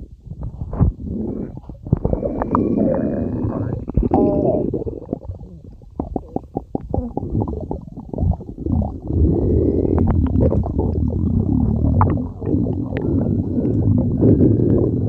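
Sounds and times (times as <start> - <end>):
stomach growling and gurgling: 0.0 - 15.0.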